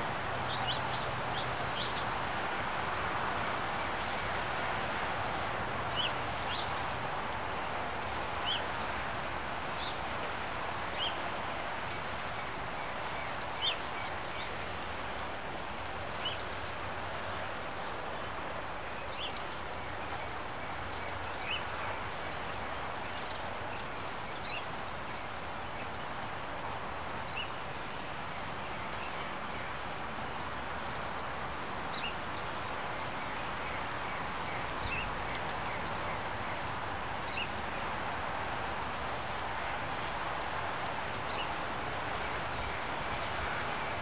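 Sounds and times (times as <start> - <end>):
rain patter: 0.0 - 44.0.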